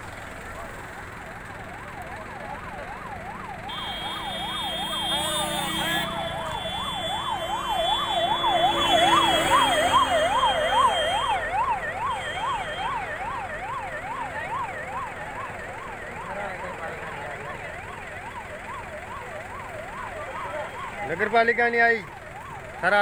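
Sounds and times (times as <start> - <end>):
emergency vehicle siren wailing: 0.2 - 23.0.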